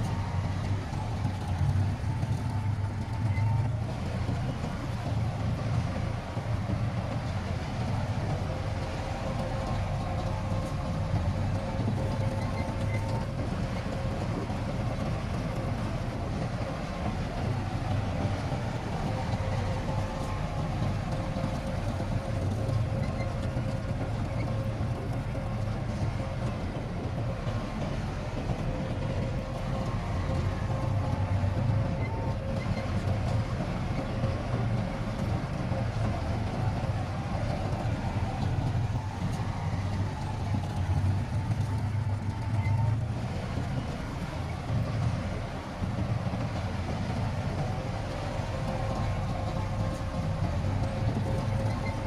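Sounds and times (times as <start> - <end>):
diesel machinery engine rumble: 0.0 - 52.0.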